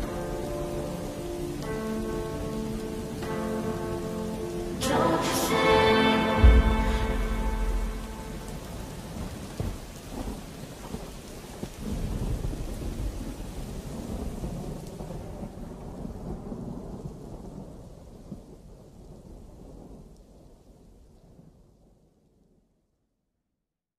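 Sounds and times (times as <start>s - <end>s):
rain and thunder rumbling: 0.0s - 22.3s.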